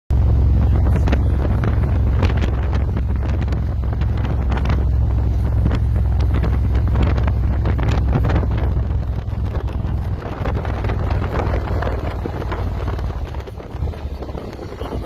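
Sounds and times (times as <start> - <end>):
motorcycle engine running: 0.1 - 15.0
wind buffeting microphone: 0.1 - 15.0.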